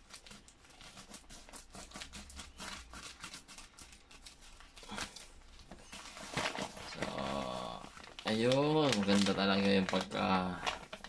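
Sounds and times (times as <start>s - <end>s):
plastic rustling: 0.0s - 11.0s.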